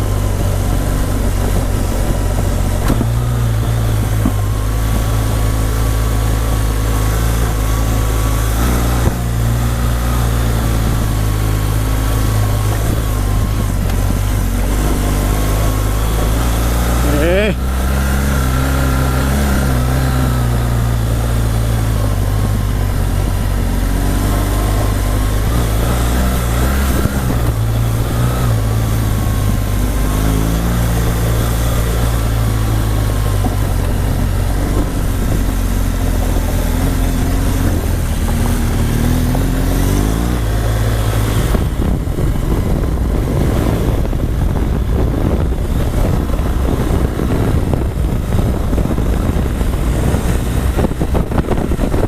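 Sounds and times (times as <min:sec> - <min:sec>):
motorcycle engine running: 0:00.0 - 0:52.0
wind rush: 0:00.0 - 0:52.0.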